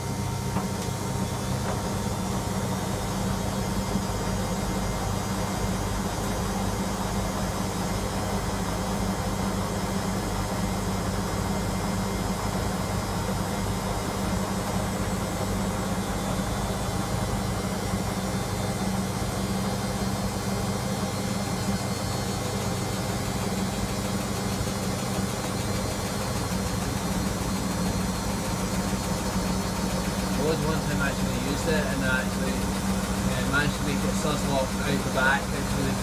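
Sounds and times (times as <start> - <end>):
washing machine spinning: 0.0 - 36.0.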